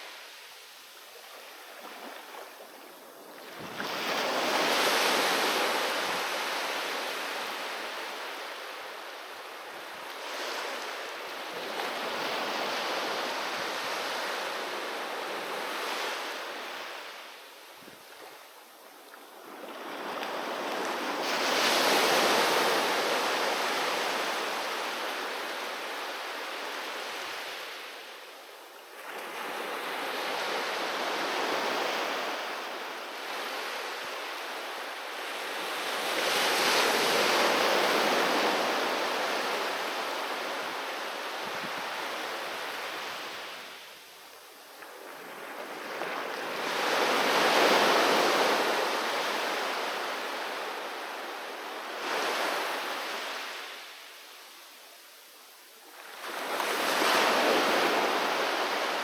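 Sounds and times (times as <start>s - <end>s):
sea waves breaking on shore: 0.0s - 17.4s, 18.1s - 28.2s, 28.9s - 43.9s, 44.8s - 54.0s, 55.9s - 59.0s.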